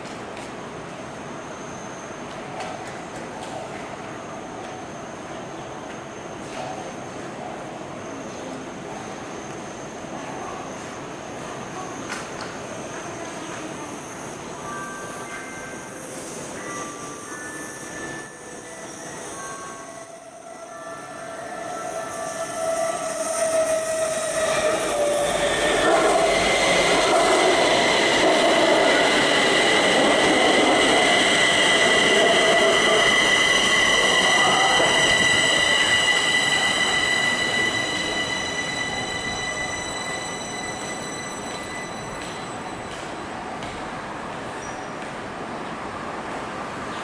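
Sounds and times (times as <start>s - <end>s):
metro train running with high whine: 0.0s - 47.0s.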